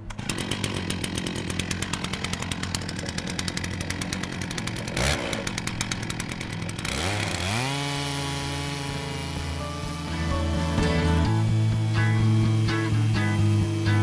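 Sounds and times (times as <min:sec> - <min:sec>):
chainsaw cutting log: 0:00.0 - 0:14.0
chainsaw idling: 0:00.0 - 0:14.0
chainsaw revving: 0:00.0 - 0:14.0.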